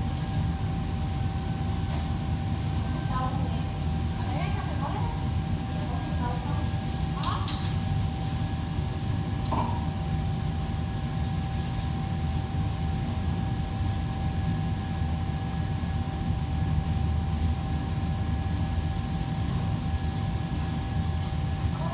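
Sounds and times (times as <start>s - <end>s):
thin steady whine: 0.0s - 21.9s
ventilation fans humming: 0.0s - 21.9s.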